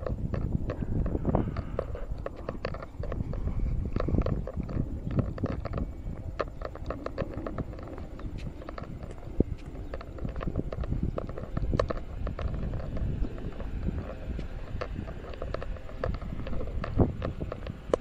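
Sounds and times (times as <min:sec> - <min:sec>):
footsteps on asphalt: 0:00.0 - 0:18.0
steady low rumble: 0:00.0 - 0:18.0.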